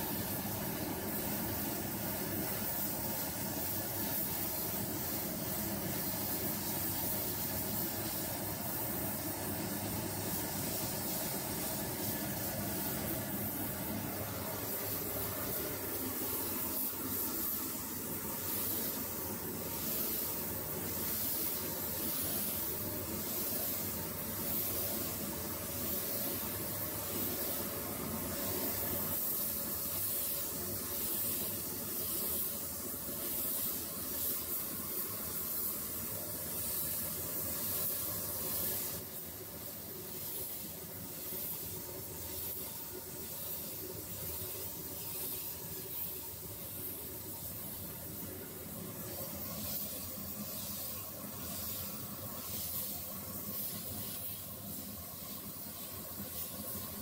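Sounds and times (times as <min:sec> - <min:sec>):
paint spray gun hissing: 0:00.0 - 0:57.0.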